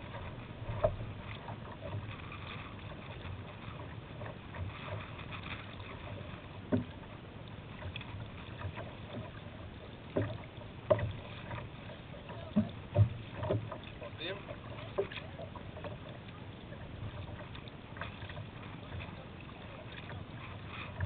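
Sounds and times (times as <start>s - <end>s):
water slapping against boat: 0.0s - 21.0s
water washing along kayak hull: 0.0s - 21.0s.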